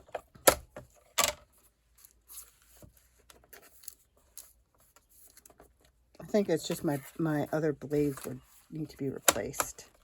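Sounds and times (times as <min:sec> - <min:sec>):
paper rustling and scraping: 0:00.8 - 0:10.0.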